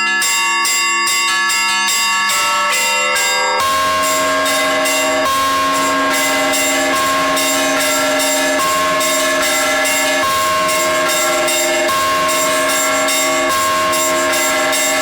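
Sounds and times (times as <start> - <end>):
large bells ringing deep: 0.0 - 15.0
small bells struck rapidly: 0.0 - 15.0.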